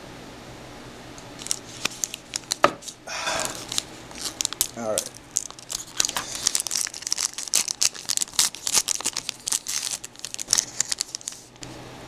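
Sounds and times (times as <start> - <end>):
plastic wrapper tearing and crinkling: 1.2 - 11.6.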